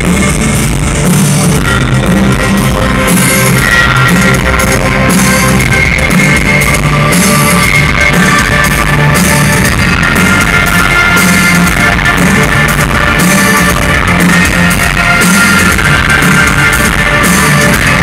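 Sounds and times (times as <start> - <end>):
bass line: 0.0 - 18.0
distorted electric guitar: 0.0 - 18.0
drum kit: 0.0 - 18.0.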